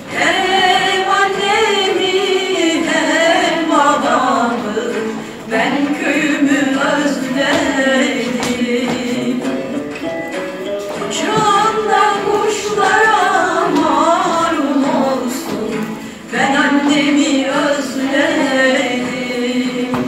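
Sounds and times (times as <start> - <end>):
woman singing with music: 0.0 - 20.0.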